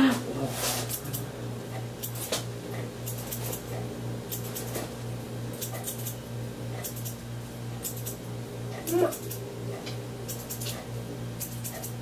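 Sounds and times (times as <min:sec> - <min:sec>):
steady low hum: 0:00.0 - 0:12.0
scissors snipping hair: 0:00.8 - 0:04.9, 0:05.5 - 0:07.2, 0:07.8 - 0:12.0.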